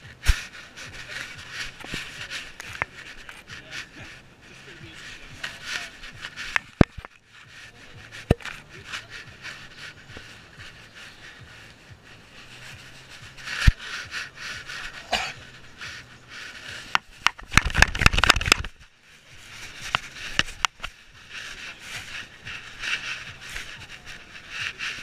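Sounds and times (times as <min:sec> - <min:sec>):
camera rubbing in grass: 0:00.0 - 0:25.0.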